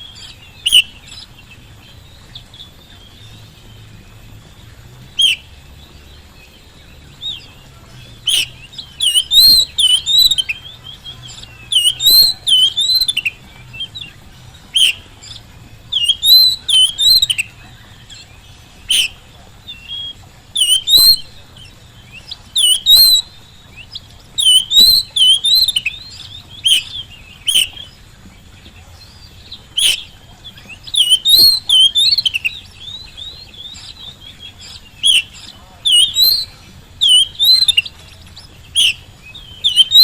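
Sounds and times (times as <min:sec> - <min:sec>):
magpie-robin whistled song: 0:00.0 - 0:40.0.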